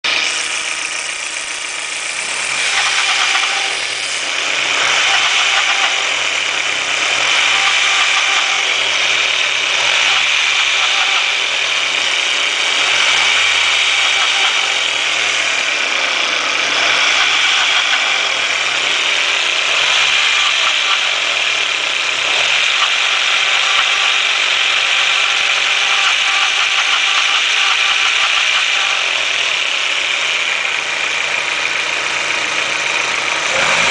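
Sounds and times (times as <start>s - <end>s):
engine running: 0.0s - 33.9s.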